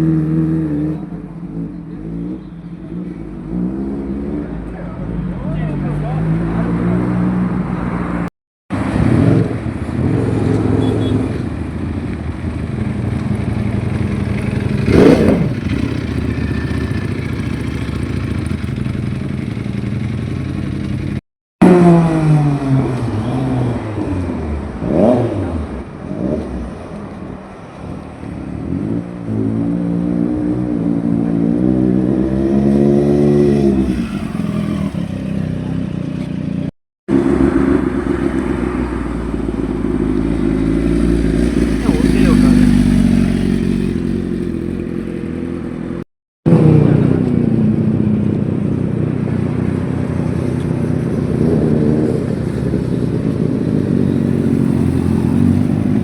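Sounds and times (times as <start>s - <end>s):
motorcycle engine revving: 0.0s - 4.8s, 5.5s - 26.7s, 28.6s - 56.0s.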